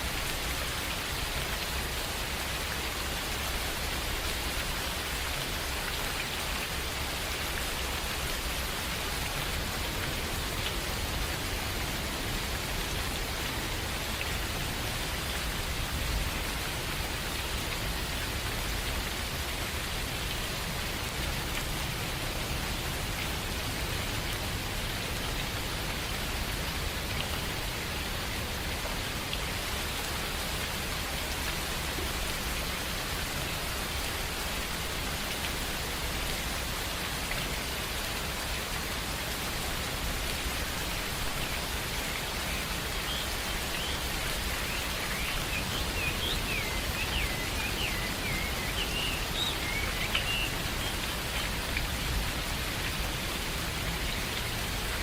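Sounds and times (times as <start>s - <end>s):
rain on leaves: 0.0s - 55.0s.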